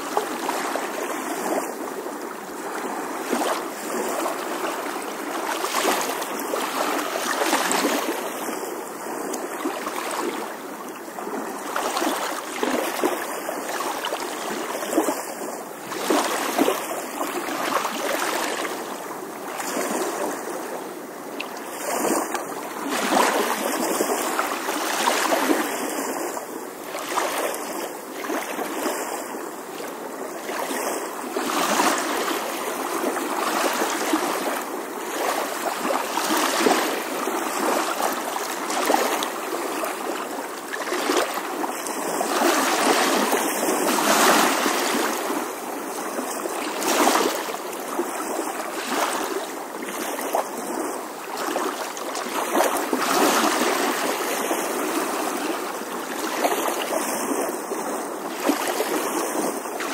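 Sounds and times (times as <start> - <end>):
ocean waves lapping on shore: 0.0 - 59.9
water splashes: 0.0 - 59.9.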